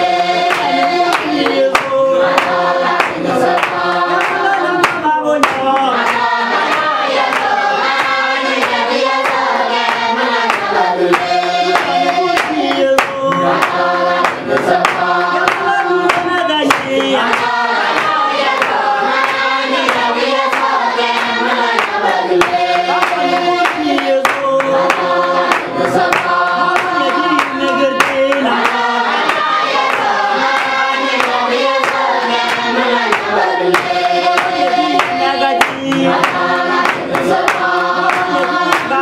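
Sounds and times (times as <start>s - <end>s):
group singing unaccompanied: 0.0s - 39.0s
hands clapping in time: 0.1s - 39.0s.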